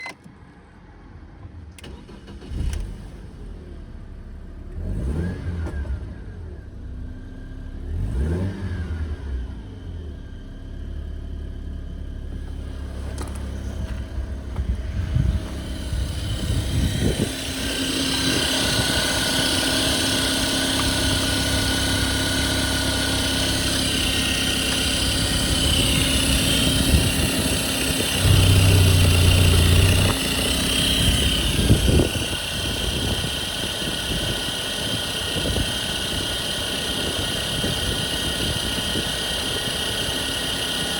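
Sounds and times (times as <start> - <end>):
engine whine: 0.0 - 40.9
car engine revving: 1.8 - 40.9.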